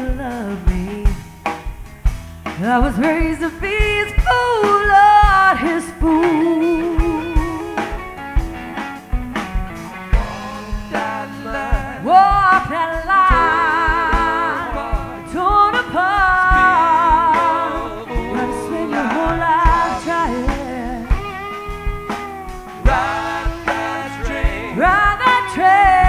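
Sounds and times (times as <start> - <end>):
woman singing: 0.0 - 1.3, 2.6 - 8.0, 10.2 - 21.3, 22.9 - 26.0
live band playing soul blues: 0.0 - 26.0.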